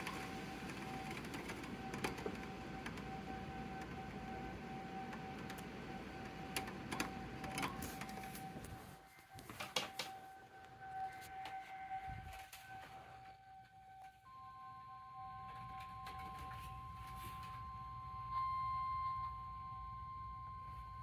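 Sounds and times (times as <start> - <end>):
distant warning siren: 0.0 - 21.0.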